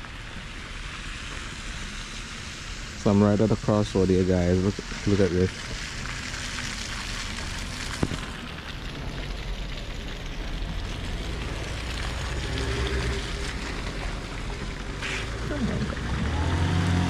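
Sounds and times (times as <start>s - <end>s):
vehicle low hum: 0.0s - 17.0s
wet hiss of slushy street: 0.0s - 17.0s.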